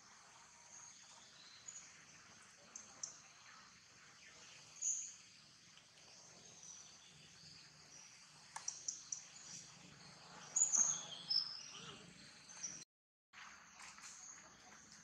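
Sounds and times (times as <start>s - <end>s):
faint outdoor background hiss: 0.0s - 12.8s.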